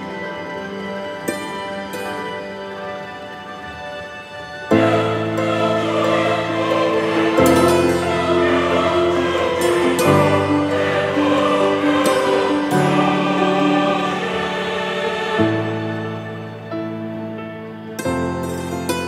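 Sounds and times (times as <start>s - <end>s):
slow held chords music: 0.0s - 19.0s.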